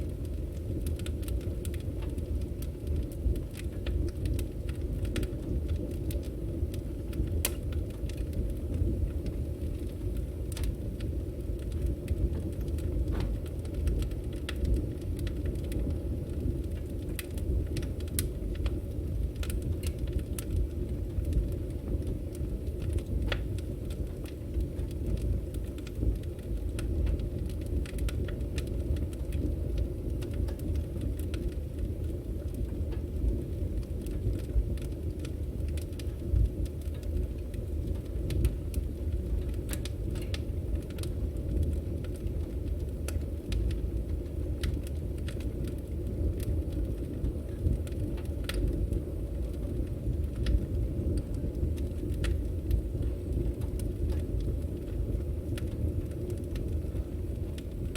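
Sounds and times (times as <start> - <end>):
logs crackling and popping: 0.0 - 57.9
low rumble of flames: 0.0 - 57.9.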